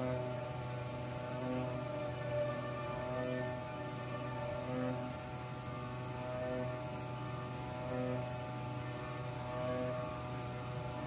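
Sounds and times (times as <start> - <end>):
low hum: 0.0 - 11.0
slow ambient music drone: 0.0 - 11.0.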